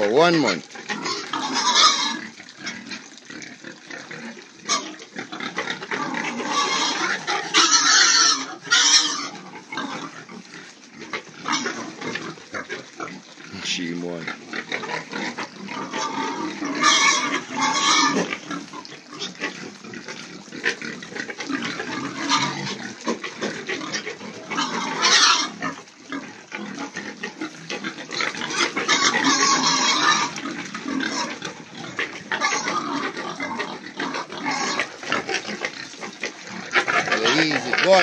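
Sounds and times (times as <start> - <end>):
pigs grunting and squealing: 0.0 - 38.0.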